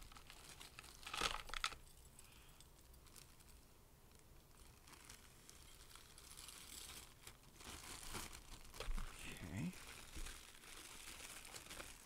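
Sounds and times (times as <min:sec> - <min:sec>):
plastic bag rustling: 0:00.0 - 0:01.9, 0:03.0 - 0:12.0.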